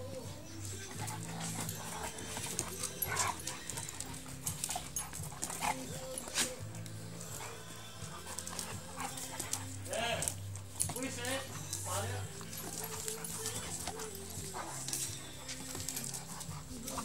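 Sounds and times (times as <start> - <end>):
background music: 0.0 - 17.0
dogs making short vocal sounds: 0.6 - 17.0.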